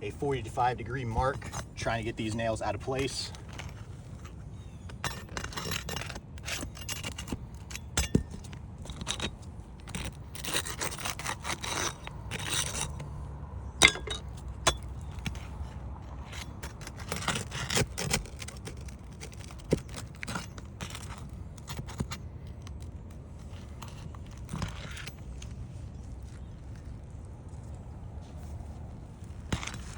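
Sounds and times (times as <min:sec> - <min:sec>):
tool scraping under shingles: 0:00.2 - 0:29.9.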